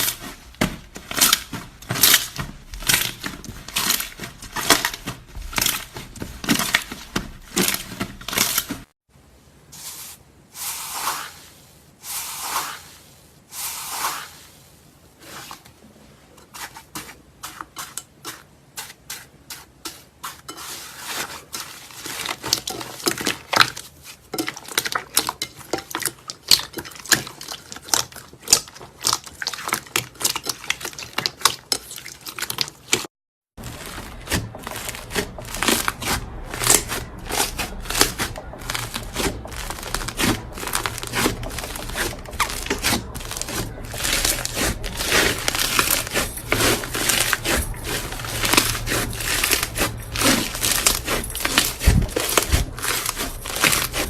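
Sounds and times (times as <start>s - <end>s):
slime squishing by hand: 0.0s - 8.9s, 16.4s - 54.0s.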